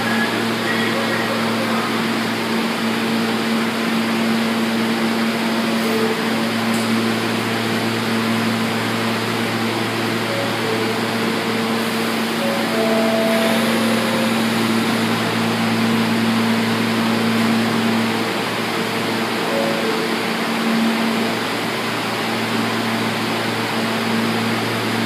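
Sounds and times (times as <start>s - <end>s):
subway train electrical hum: 0.0s - 25.0s.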